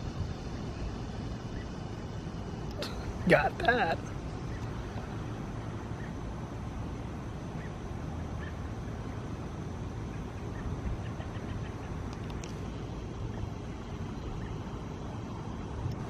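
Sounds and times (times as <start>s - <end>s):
steady hiss with low hum: 0.0s - 16.0s.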